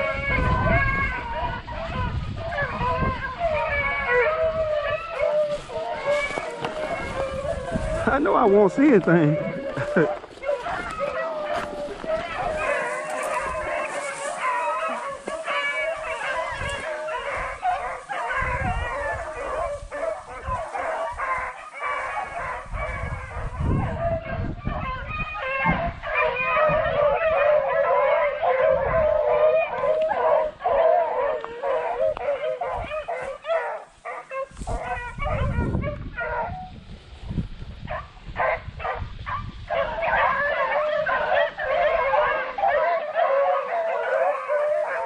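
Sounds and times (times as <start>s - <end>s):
hounds baying: 0.0s - 36.7s, 37.8s - 45.0s.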